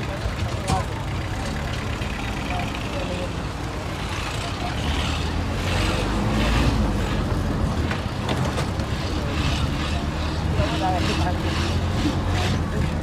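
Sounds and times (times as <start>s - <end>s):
heavy vehicle engines running: 0.0s - 13.0s
passing traffic: 0.0s - 13.0s.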